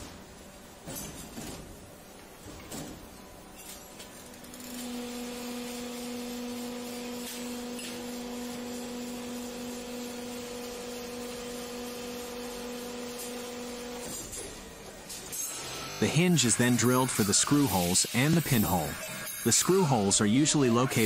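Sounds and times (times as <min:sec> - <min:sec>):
machine electric hum: 0:00.0 - 0:21.0.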